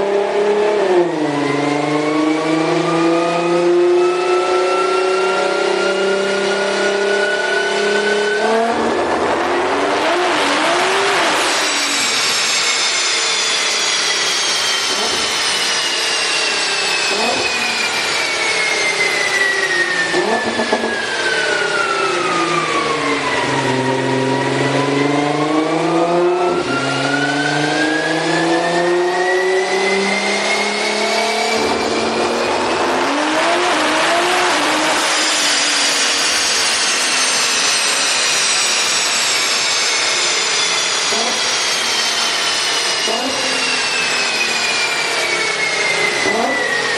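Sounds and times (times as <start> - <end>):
high-revving car engine and exhaust: 0.0 - 46.9.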